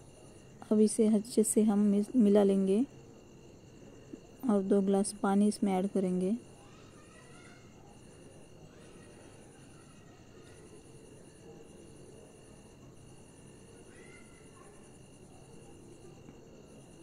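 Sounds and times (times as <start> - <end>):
crickets chirping: 0.0 - 17.0
low background noise: 0.0 - 17.0.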